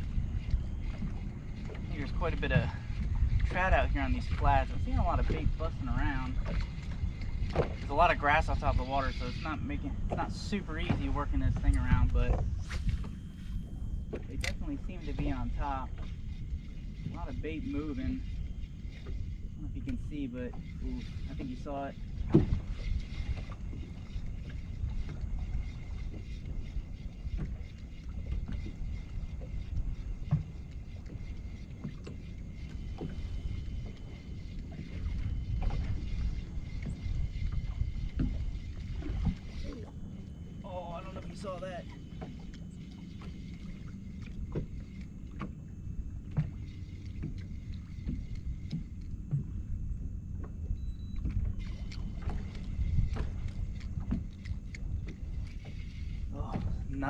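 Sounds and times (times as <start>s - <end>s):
water lapping against hull: 0.0s - 57.0s
wind rumbling on microphone: 0.0s - 57.0s.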